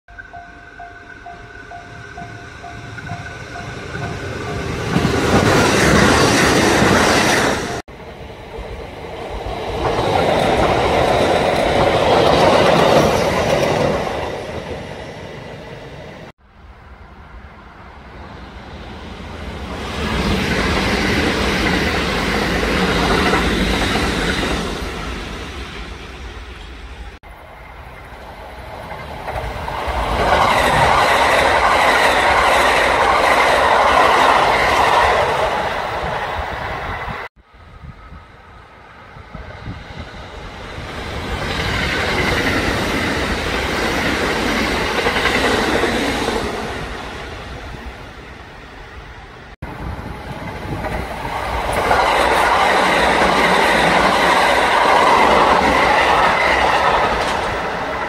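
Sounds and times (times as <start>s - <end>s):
electric trains passing: 0.1s - 58.0s.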